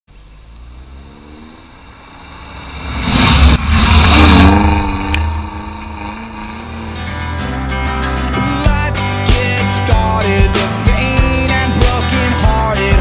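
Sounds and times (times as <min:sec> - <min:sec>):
vehicle engine revving: 0:00.1 - 0:13.0.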